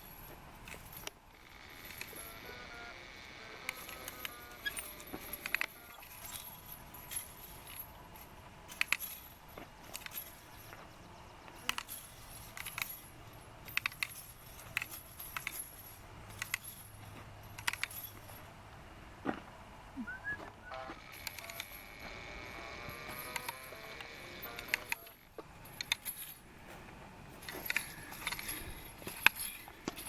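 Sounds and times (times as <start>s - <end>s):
brass cartridge cases clinking: 0.0s - 2.7s, 3.6s - 18.5s, 21.0s - 30.0s.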